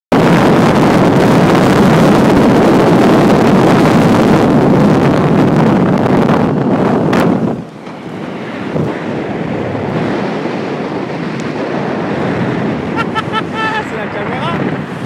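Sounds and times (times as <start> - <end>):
wind rushing over microphone: 0.1 - 15.0.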